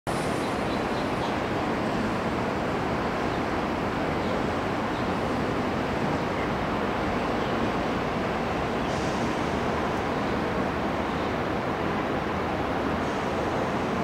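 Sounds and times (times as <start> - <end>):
road traffic hum: 0.1 - 14.0.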